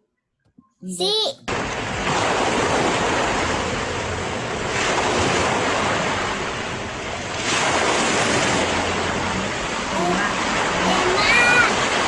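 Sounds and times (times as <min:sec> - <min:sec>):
ocean waves washing ashore: 0:01.5 - 0:12.0.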